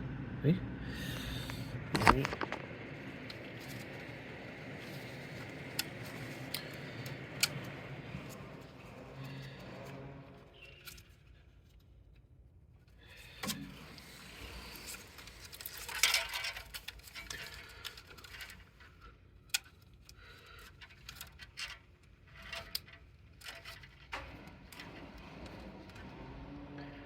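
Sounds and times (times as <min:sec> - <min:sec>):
cable rustling: 0:01.0 - 0:12.0, 0:13.2 - 0:27.0.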